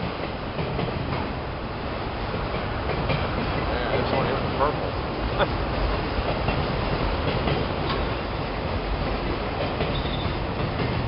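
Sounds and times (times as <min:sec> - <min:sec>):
wheels clacking over rail joints: 0:00.0 - 0:11.0
wheels rumbling on rail: 0:00.0 - 0:11.0.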